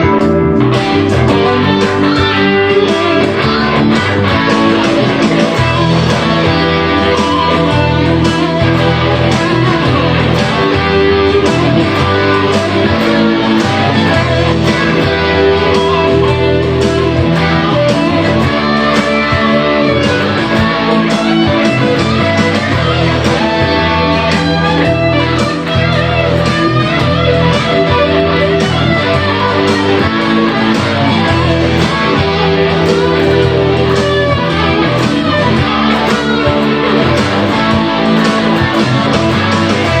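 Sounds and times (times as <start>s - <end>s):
electric guitar through amplifier: 0.0s - 40.0s.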